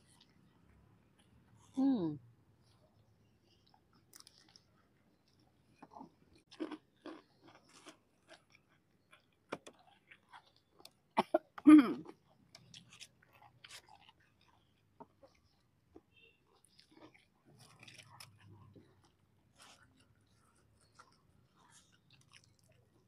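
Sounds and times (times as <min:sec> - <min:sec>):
chewing crispy snacks: 0:02.6 - 0:23.0.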